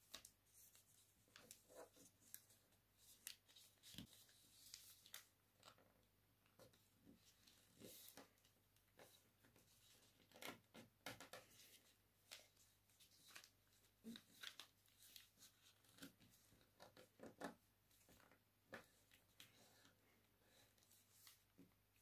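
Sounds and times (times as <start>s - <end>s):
paper folding and crinkling: 0.0s - 5.8s, 6.6s - 21.6s.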